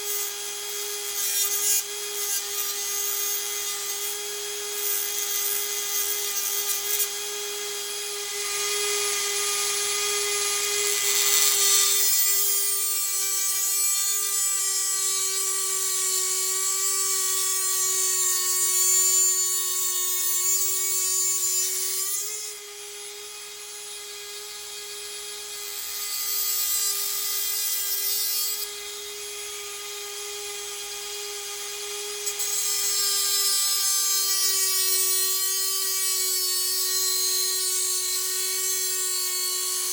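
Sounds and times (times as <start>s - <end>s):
rotary tool grinding metal: 0.0s - 39.9s.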